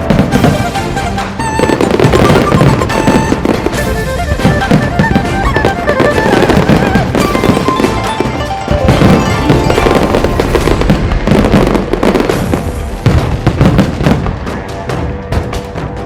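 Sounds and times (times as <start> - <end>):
fireworks bangs and crackles: 0.0 - 16.0
music playing: 0.0 - 16.0.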